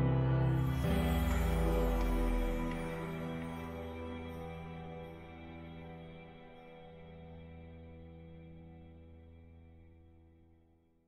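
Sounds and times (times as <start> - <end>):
held low music chord: 0.0 - 10.6.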